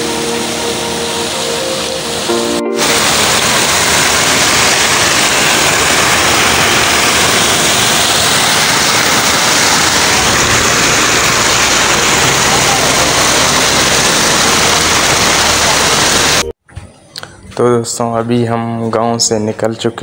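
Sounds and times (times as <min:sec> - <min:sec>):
water pouring over ledge: 0:00.0 - 0:16.5.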